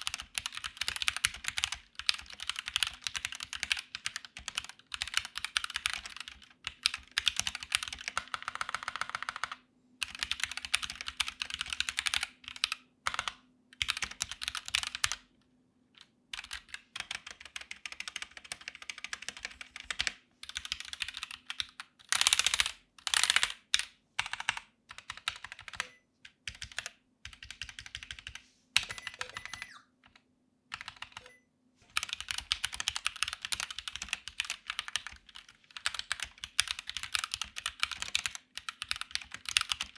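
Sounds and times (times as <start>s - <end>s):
mechanical keyboard typing: 0.0s - 15.3s, 16.0s - 39.9s.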